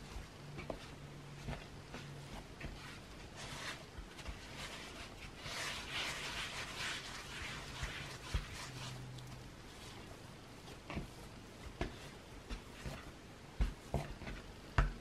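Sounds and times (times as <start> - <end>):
hands kneading dough in a bowl: 0.0 - 15.0.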